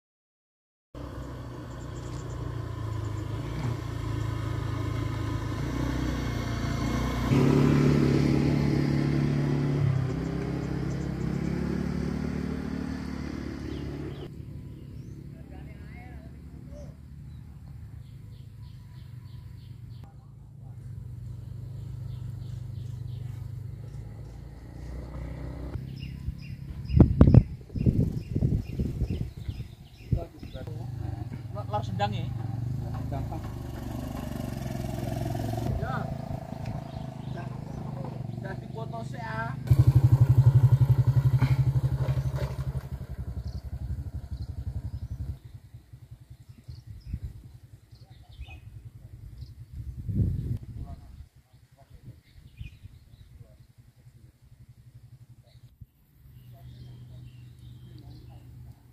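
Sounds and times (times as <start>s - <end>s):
motorcycle engine at low speed: 1.0s - 58.9s.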